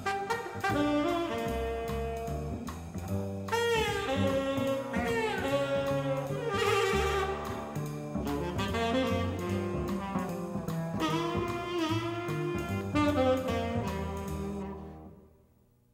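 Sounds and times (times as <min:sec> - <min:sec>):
drum kit: 0:00.0 - 0:15.2
jazz saxophone lead: 0:00.0 - 0:15.3
bass: 0:00.0 - 0:15.9.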